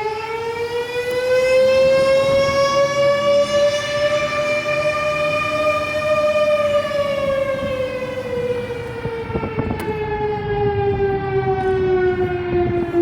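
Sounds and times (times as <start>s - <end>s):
fire siren winding down: 0.0s - 13.0s.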